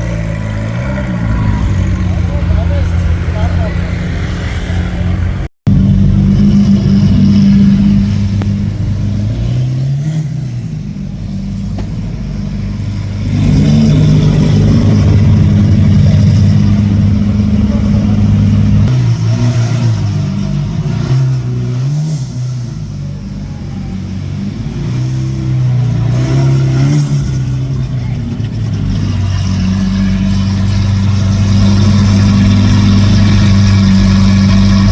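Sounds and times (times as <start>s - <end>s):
sports car engine revving: 0.0s - 34.9s.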